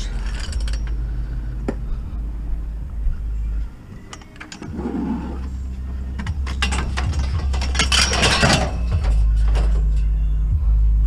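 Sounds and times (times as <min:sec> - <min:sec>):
metal poles clanking: 0:00.0 - 0:02.1, 0:03.4 - 0:10.3
van engine idling: 0:00.0 - 0:11.0.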